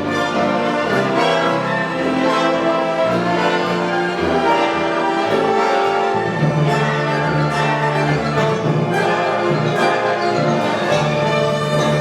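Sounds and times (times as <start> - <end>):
orchestra playing sustained chords: 0.0 - 12.0.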